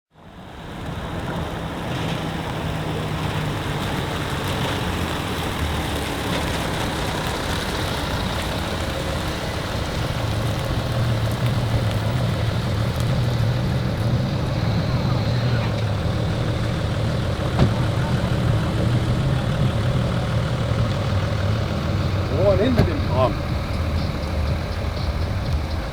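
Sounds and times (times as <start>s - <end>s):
car engine idling: 0.2s - 25.9s.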